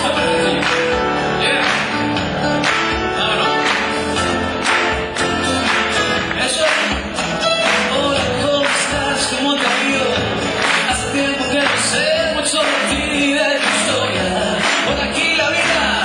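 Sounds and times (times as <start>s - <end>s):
man singing: 0.0s - 4.6s, 6.0s - 16.0s
acoustic guitar strumming: 0.0s - 16.0s.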